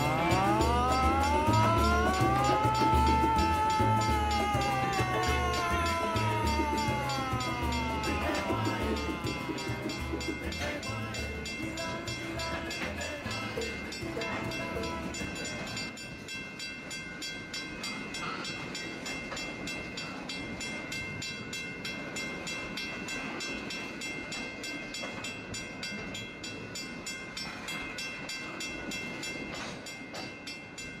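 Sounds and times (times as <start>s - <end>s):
high ringing tones: 0.0s - 31.0s.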